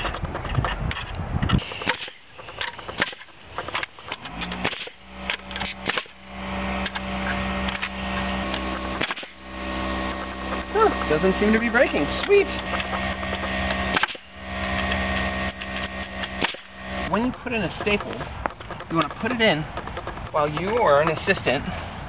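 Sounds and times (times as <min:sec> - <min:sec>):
pneumatic nailer firing into wood: 0:00.0 - 0:20.9
steady hum: 0:00.8 - 0:22.0.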